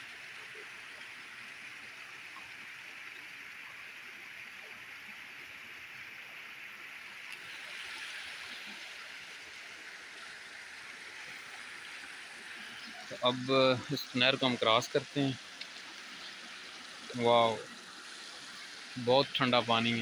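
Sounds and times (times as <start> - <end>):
water rushing in a canal: 0.0 - 20.0.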